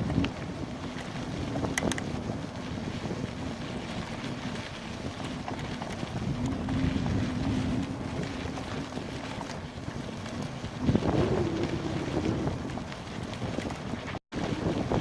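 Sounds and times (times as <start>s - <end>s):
bicycle clicks and rattles: 0.0s - 15.0s
wind buffeting microphone: 0.0s - 15.0s.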